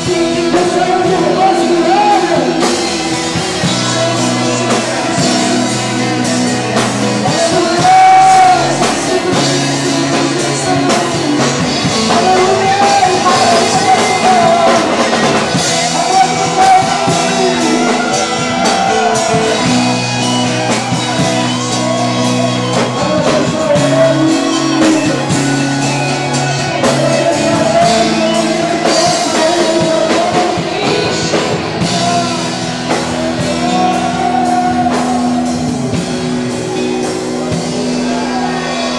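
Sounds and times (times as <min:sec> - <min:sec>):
person singing: 0:00.0 - 0:38.9
rock guitar and drum kit: 0:00.0 - 0:38.9.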